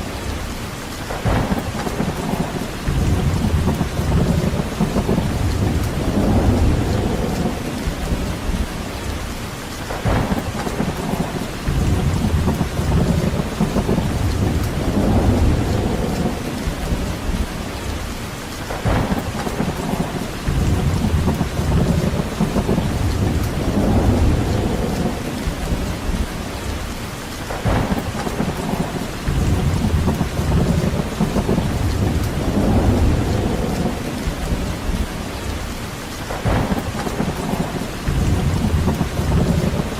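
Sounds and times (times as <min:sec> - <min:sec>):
steady rain falling: 0:00.0 - 0:39.9
thunder rumbles: 0:00.0 - 0:39.9
sharp thunder crack: 0:01.1 - 0:08.8, 0:09.8 - 0:17.9, 0:18.6 - 0:26.7, 0:27.4 - 0:35.6, 0:36.2 - 0:39.9.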